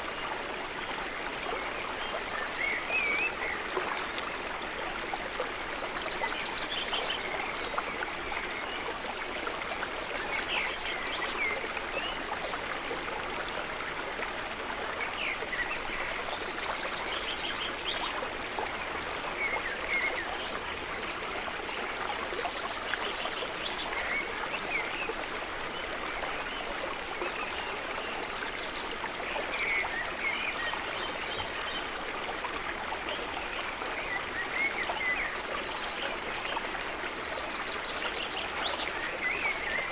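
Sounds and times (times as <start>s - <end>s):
stream water running and splashing: 0.0s - 39.9s.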